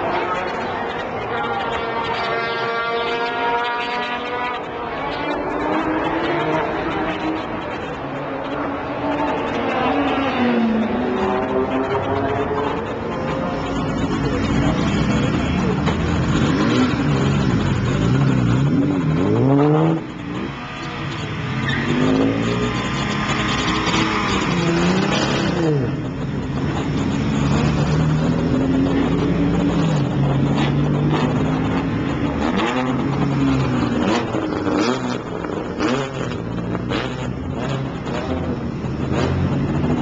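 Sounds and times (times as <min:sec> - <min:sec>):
sports car engines idling and revving: 0:00.0 - 0:40.0.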